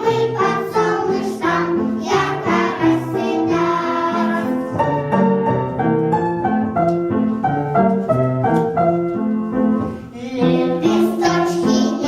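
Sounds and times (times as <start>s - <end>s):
piano-like melody with bass line: 0.0s - 12.0s.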